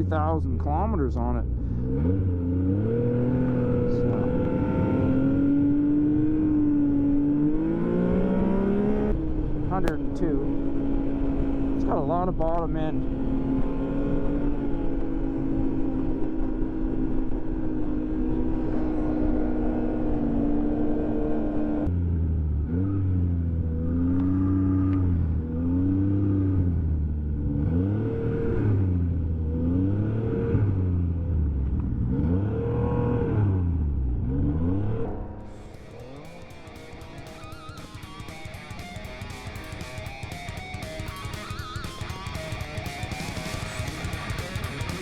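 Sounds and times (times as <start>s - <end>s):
snowmobile engine revving: 0.0s - 21.9s, 22.7s - 45.0s.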